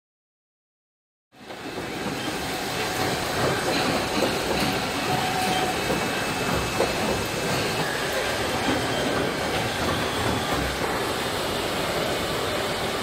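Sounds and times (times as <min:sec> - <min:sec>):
industrial robots and conveyors running: 0:01.4 - 0:13.0.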